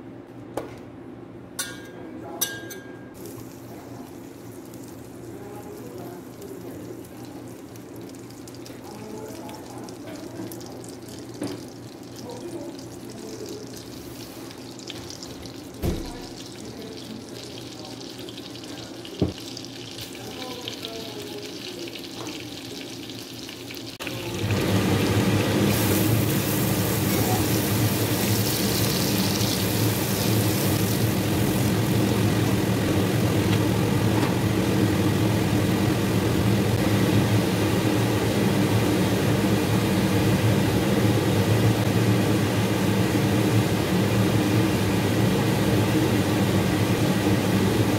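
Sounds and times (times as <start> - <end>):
butter and oil sizzling: 3.1 - 47.9.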